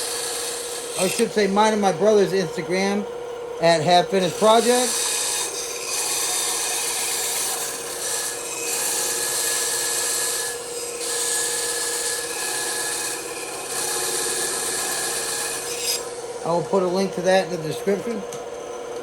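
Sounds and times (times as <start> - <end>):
bandsaw cutting wood: 0.0 - 3.0, 3.6 - 19.0.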